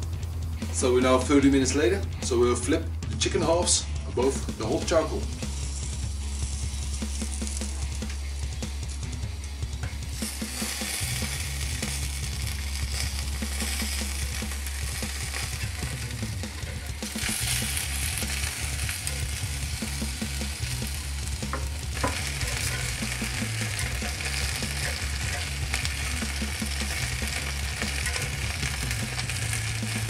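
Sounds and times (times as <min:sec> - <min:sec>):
chicken sizzling on a grill: 0:05.0 - 0:30.0.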